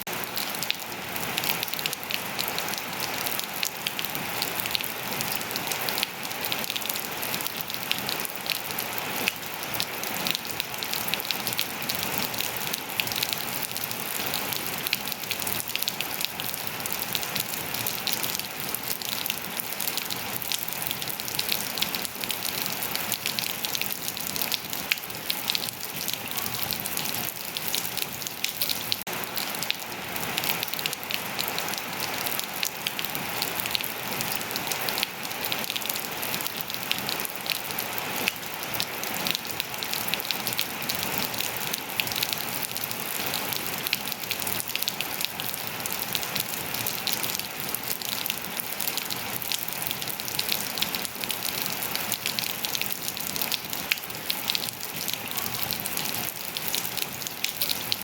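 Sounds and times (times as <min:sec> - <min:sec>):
rain on hard surfaces and foliage: 0:00.0 - 0:58.0.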